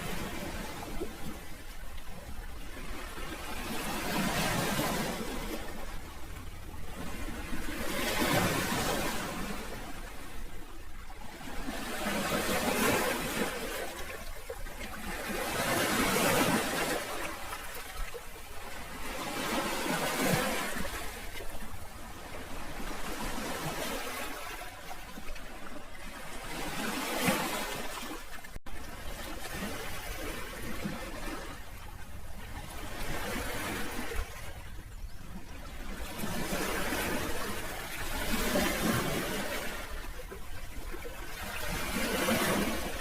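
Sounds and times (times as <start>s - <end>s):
sea waves washing onto shore: 0.0s - 43.0s.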